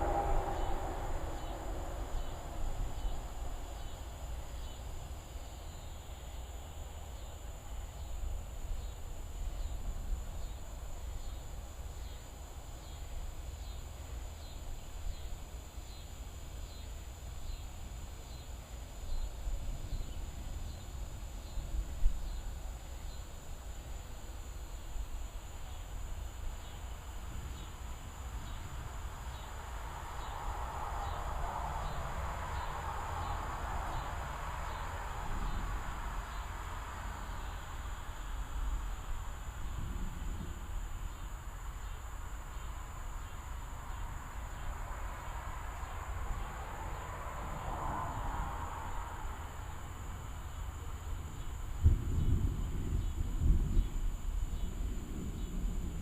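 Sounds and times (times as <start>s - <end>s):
constant low rumble: 0.0s - 56.0s
insects chirping: 0.0s - 56.0s.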